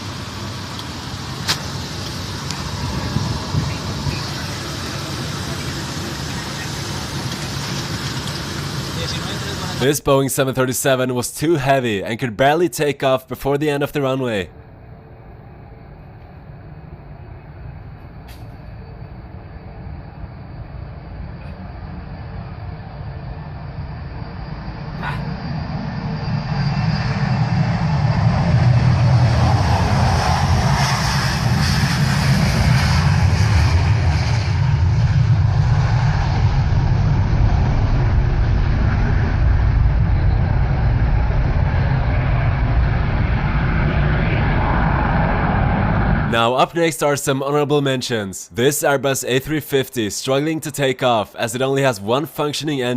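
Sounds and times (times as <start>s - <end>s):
jet engines at takeoff power: 0.0s - 47.4s.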